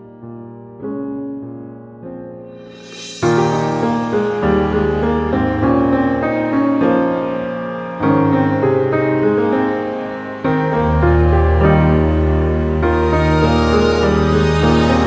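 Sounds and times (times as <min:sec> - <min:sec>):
instrumental music with slow chords: 0:00.0 - 0:15.0.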